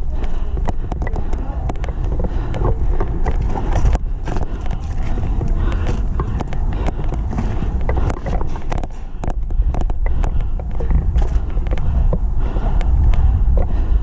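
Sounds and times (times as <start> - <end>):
sharp clicks and knocks: 0.0 - 13.8
wind rumbling on microphone: 0.0 - 14.0.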